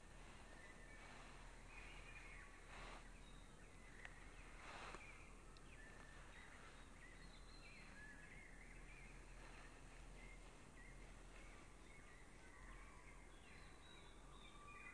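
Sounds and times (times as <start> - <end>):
soft rustling: 0.0 - 14.3
birds chirping and warbling: 0.0 - 14.9
low steady hum: 0.0 - 14.9.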